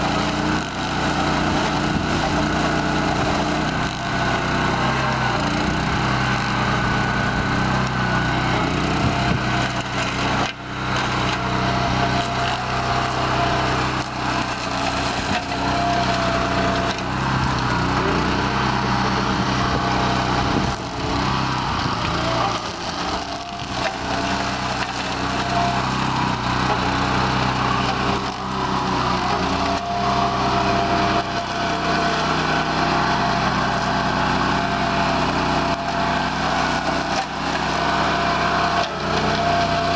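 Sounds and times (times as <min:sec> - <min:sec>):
stalks being shredded: 0:00.0 - 0:39.9
tractor engine drone: 0:00.0 - 0:39.9.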